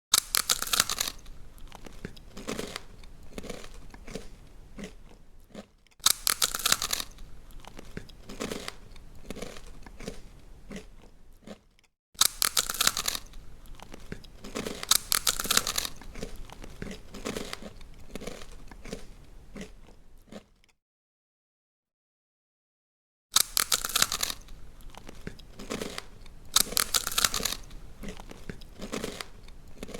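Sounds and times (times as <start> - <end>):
rabbit chewing and crunching food: 0.1 - 20.5, 23.4 - 29.9.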